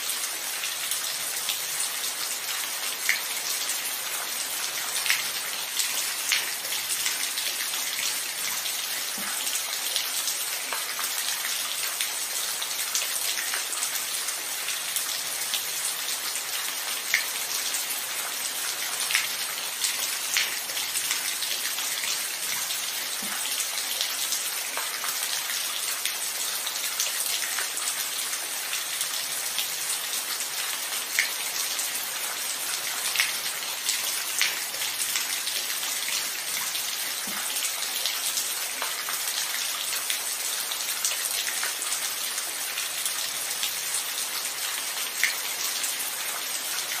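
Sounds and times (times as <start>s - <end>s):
raindrops ticking and splashing: 0.0s - 47.0s.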